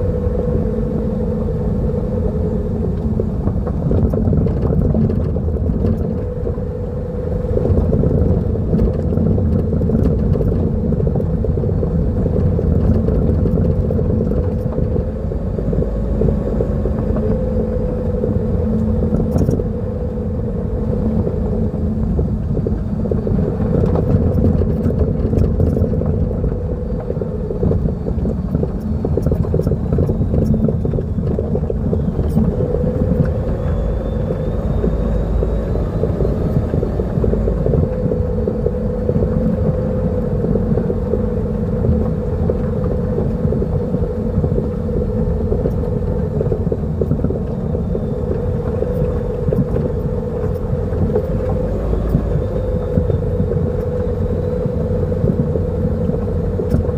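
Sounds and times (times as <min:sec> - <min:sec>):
car road and running noise: 0:00.0 - 0:56.9.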